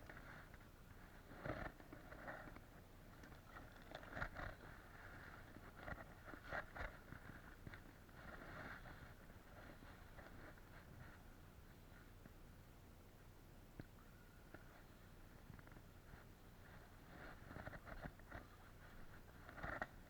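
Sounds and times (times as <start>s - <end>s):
soft rustling: 0.0s - 20.0s.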